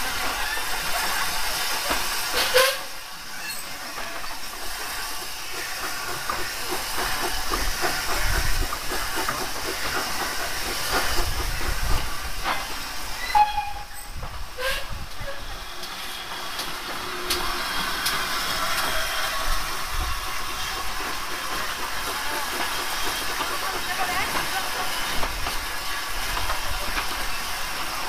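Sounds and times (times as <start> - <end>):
steam engine hissing: 0.0 - 28.0.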